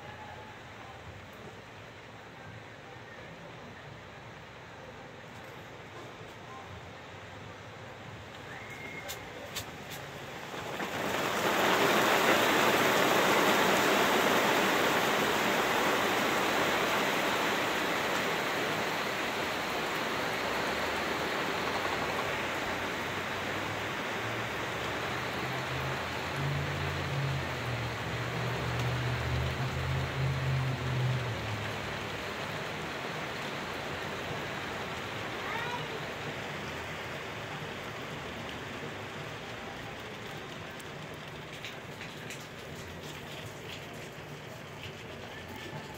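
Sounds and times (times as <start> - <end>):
heavy rain pouring: 3.9 - 45.9.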